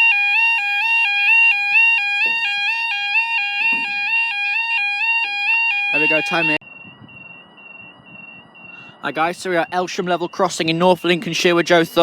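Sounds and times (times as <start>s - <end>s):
two-tone level crossing alarm: 0.0s - 11.2s.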